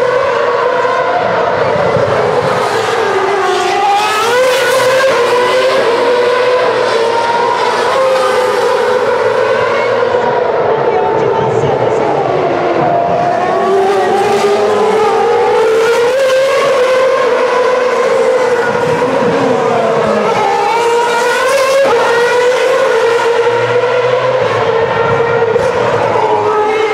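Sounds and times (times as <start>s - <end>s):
racing car engines at high revs: 0.0s - 26.9s.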